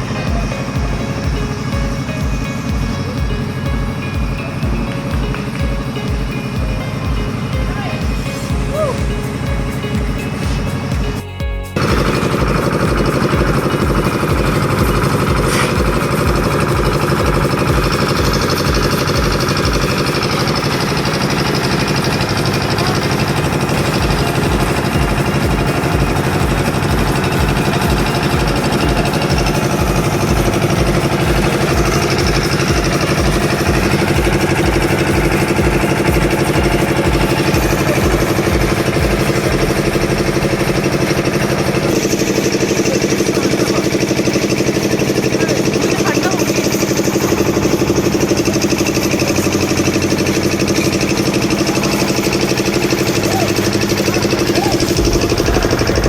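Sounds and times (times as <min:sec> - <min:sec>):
machinery engine chugging: 0:00.0 - 0:56.0.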